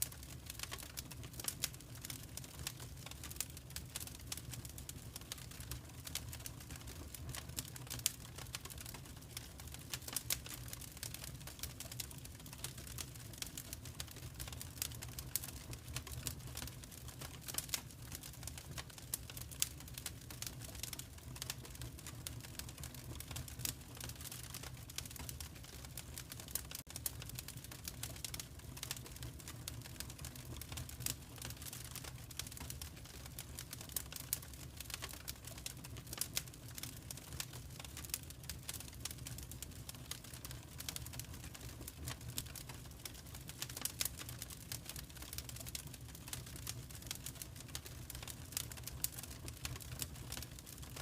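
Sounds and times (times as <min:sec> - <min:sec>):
fireplace fire crackling: 0:00.0 - 0:51.0.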